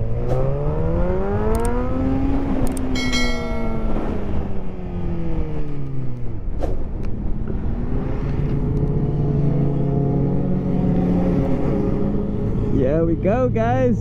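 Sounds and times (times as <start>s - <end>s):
motorcycle engine revving: 0.0s - 6.4s, 7.2s - 13.0s.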